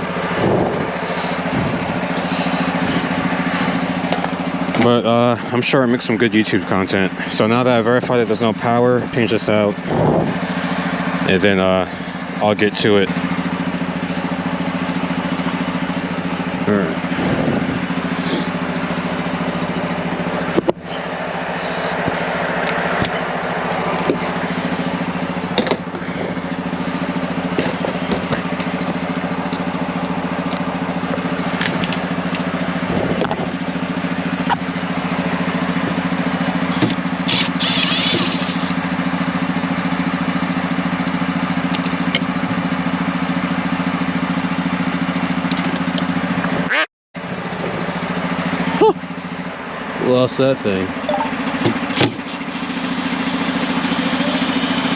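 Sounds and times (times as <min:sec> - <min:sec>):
machine engine droning: 0:00.0 - 0:54.9.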